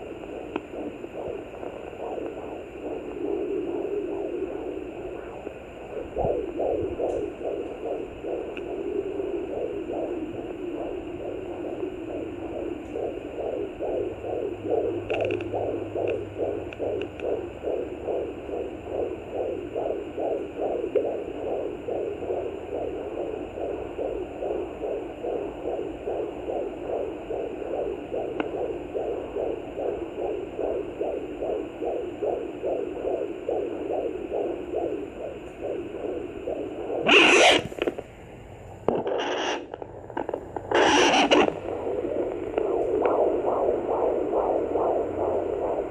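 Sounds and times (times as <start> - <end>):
fetal heartbeat on doppler: 0.0 - 38.1, 38.8 - 45.9.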